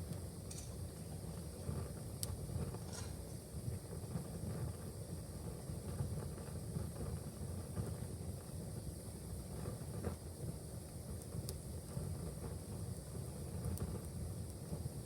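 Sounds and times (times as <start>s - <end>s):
faint fire crackles: 0.0s - 15.0s
fire rumbling in fireplace: 0.0s - 15.0s.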